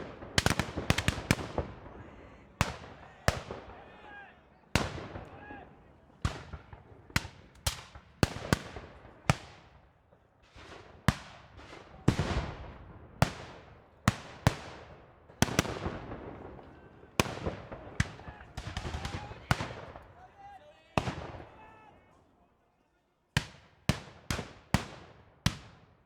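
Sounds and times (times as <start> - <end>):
distant gunshots echoing: 0.0 - 20.1, 23.4 - 26.0.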